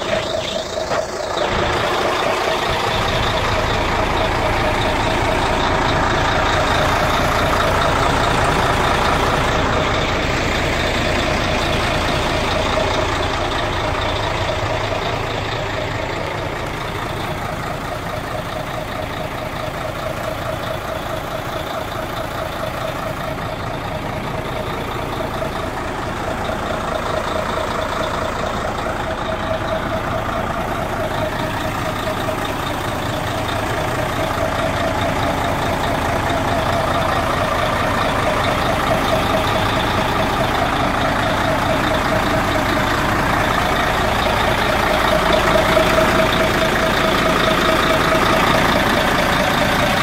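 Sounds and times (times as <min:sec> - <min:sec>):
diesel truck engine idling: 0:00.0 - 0:50.0.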